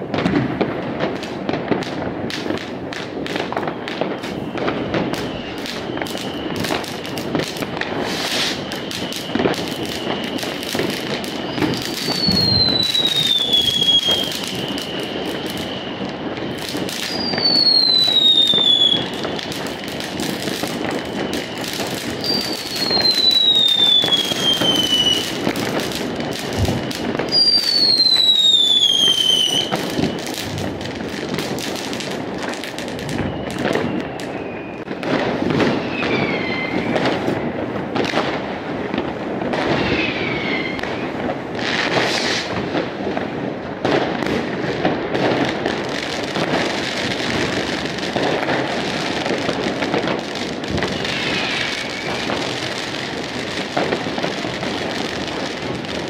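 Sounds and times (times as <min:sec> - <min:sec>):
distant firecrackers crackling: 0:00.0 - 0:56.0
whistling fireworks: 0:00.0 - 0:56.0.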